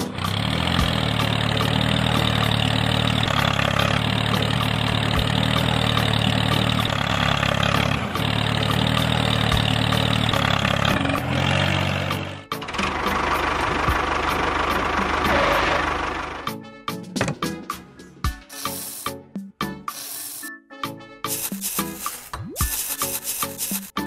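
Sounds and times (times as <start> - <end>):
tractor engine running: 0.0 - 18.1, 21.3 - 24.0.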